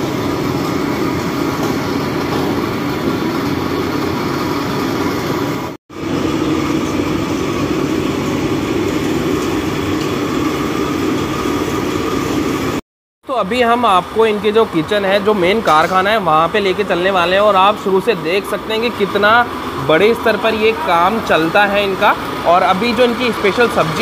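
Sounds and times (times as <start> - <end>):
kitchen machinery and burners roaring: 0.0 - 24.0.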